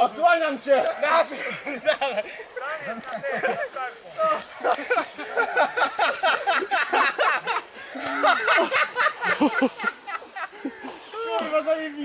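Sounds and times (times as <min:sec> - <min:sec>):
people talking and laughing: 0:00.0 - 0:12.0.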